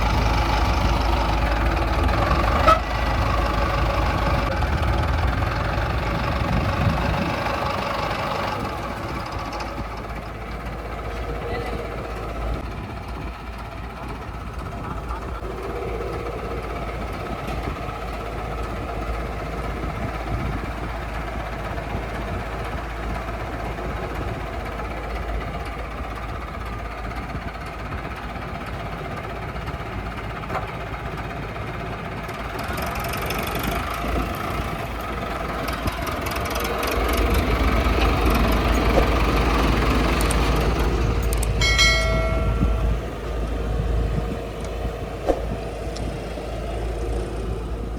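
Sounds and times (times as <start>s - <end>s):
diesel engines running: 0.0s - 47.9s.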